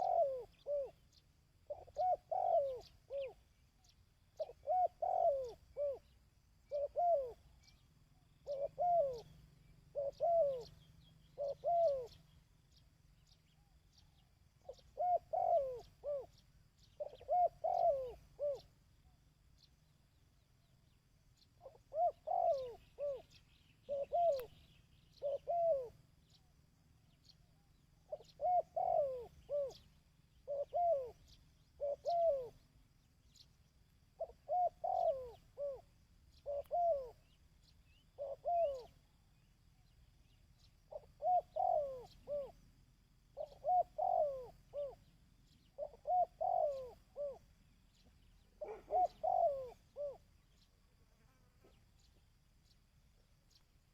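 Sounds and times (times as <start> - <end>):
dove cooing: 0.0 - 12.4, 14.6 - 18.8, 21.6 - 26.4, 27.2 - 52.8.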